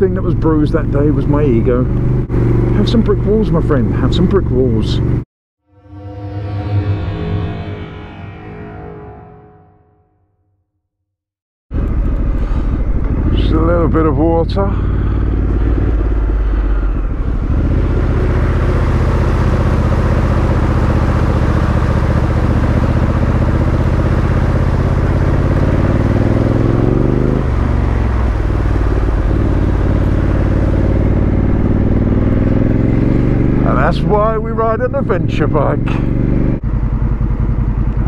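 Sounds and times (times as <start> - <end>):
motorcycle engine running: 0.0 - 5.2, 11.7 - 38.0.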